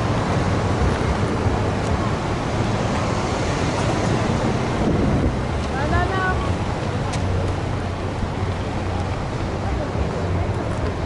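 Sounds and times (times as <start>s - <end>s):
road traffic driving past: 0.0s - 11.0s.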